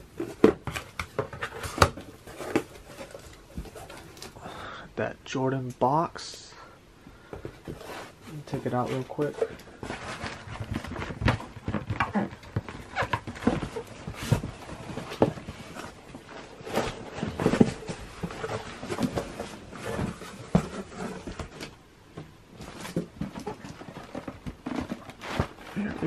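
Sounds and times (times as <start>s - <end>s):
packaging rustling and scraping: 0.0s - 4.5s, 7.3s - 21.8s, 22.5s - 26.0s.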